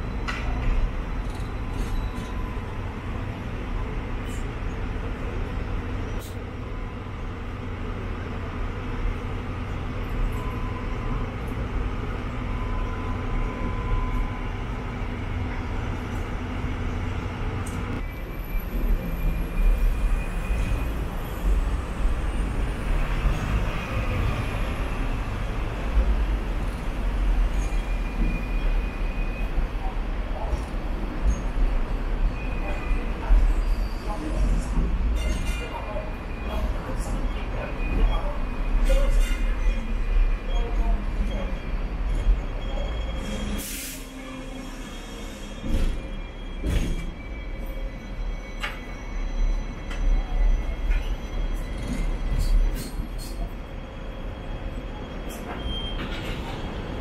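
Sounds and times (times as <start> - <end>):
tram rumbling on tracks: 0.0 - 57.0.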